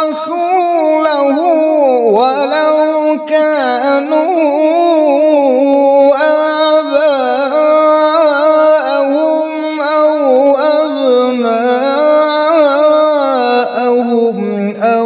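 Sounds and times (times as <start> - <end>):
man chanting melodic recitation: 0.0 - 15.0.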